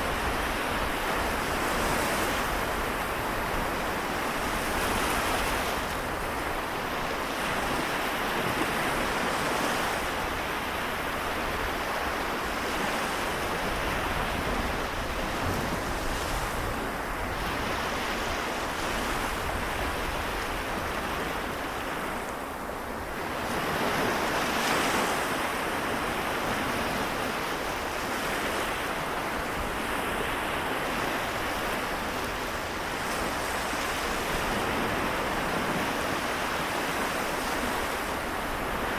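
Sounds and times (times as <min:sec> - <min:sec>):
small waves washing on shore: 0:00.0 - 0:38.9.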